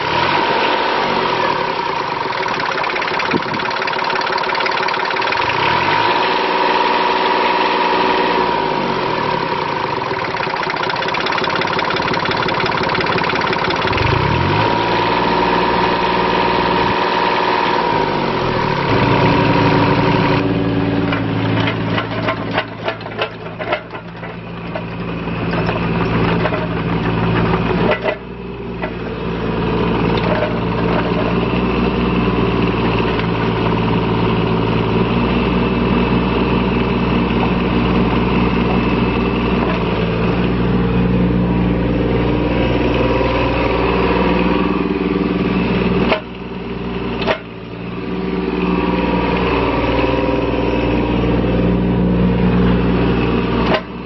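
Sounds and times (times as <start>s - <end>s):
mini excavator diesel engine: 0.0s - 54.0s.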